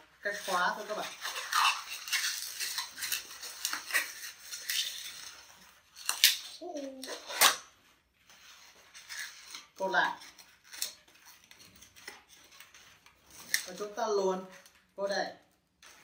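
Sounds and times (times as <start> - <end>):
balloon squeaking and rubbing: 0.2 - 13.9.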